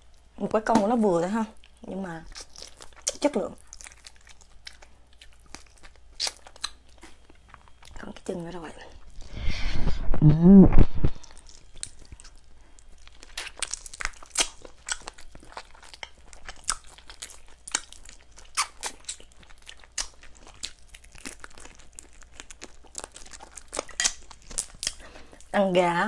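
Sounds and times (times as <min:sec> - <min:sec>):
person chewing and biting: 0:01.6 - 0:08.0, 0:11.0 - 0:25.5.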